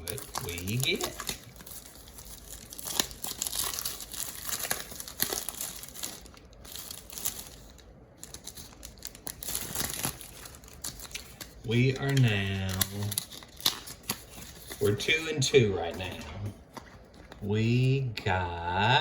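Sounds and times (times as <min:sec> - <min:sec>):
plastic packaging crinkling: 0:00.0 - 0:17.6.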